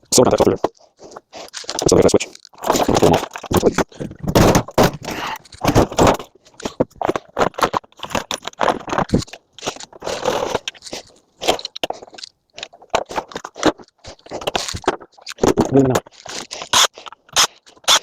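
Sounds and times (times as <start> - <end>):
metal parts clicking and scraping: 0.3 - 18.0.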